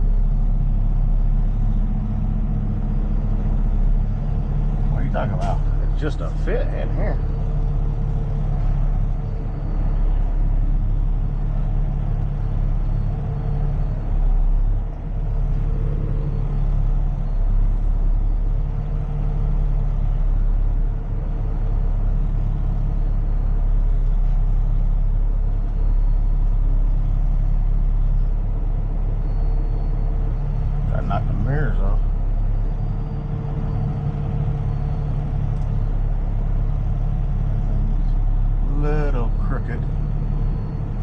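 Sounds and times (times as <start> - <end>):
truck engine running at low revs: 0.0 - 41.0.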